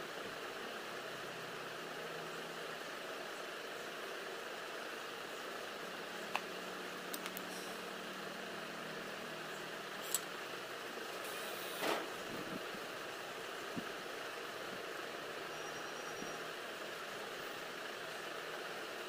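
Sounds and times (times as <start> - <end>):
room noise hiss: 0.0 - 19.0.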